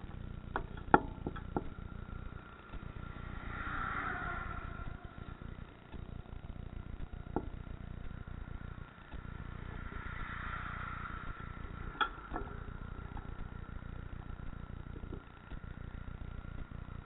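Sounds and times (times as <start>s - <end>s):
sharp clicks and rattles: 0.0s - 3.6s, 4.5s - 17.0s
road and bike noise: 0.0s - 17.0s
wind rumbling on microphone: 0.0s - 17.0s.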